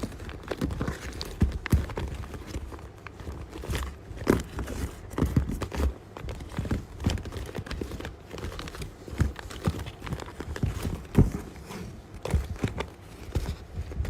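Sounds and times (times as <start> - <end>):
paper crinkling: 0.0 - 14.0.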